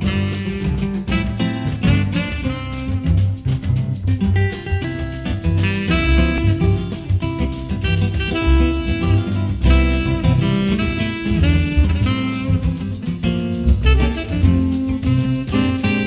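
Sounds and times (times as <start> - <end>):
jazz guitar: 0.0 - 16.0
steady bass: 0.0 - 16.0.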